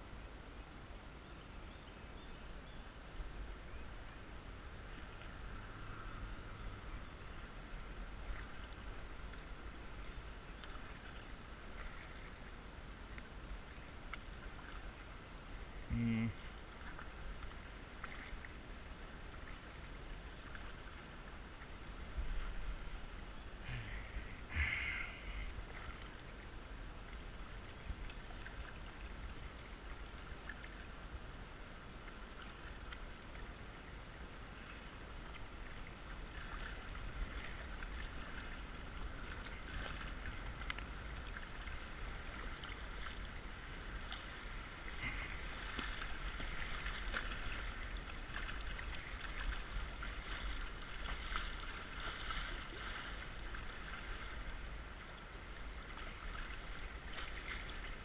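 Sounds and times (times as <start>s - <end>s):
creek water rushing against kayak: 0.0s - 58.0s.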